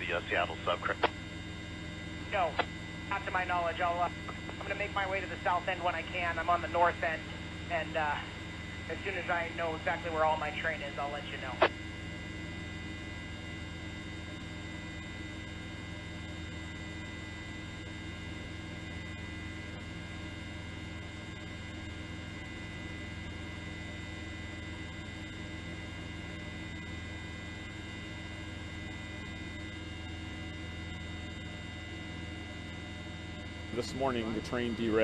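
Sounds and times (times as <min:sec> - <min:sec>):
steady electrical hum: 0:00.0 - 0:35.0.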